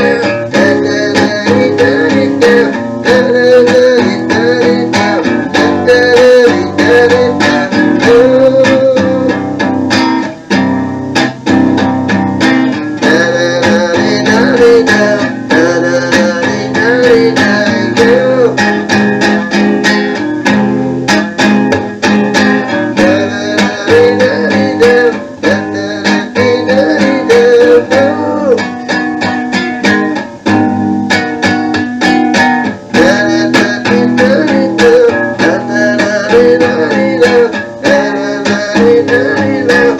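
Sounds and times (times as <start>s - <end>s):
plucked and strummed guitar: 0.0s - 39.9s.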